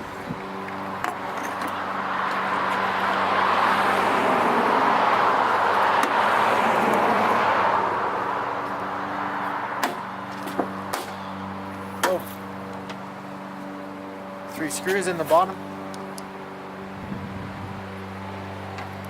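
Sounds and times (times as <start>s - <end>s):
passing car road noise: 0.0s - 19.0s.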